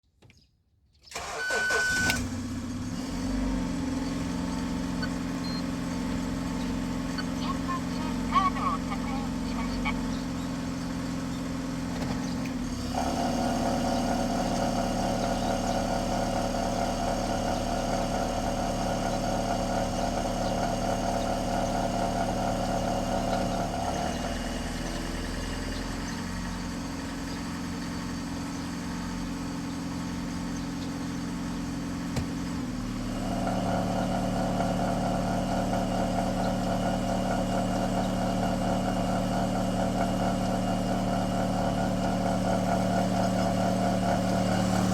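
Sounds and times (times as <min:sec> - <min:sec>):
car engine idling: 0:02.0 - 0:44.9.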